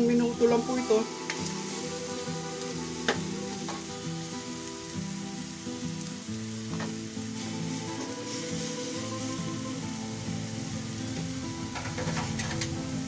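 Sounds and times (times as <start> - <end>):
steak sizzling in a pan: 0.0 - 13.0.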